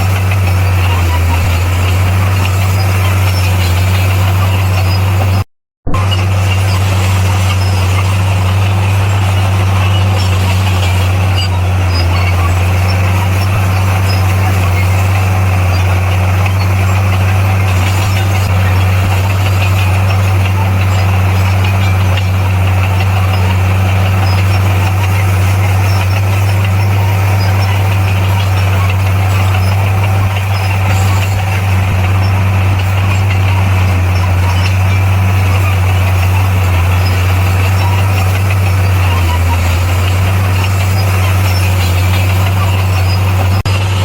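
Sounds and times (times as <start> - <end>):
bulldozer diesel engine droning: 0.0 - 44.0.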